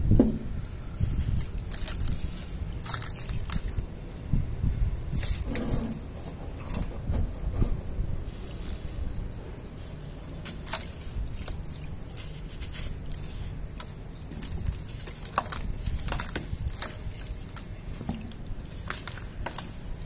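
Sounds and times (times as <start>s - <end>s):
wet sand crumbling crackles: 0.8s - 6.0s, 8.2s - 20.0s.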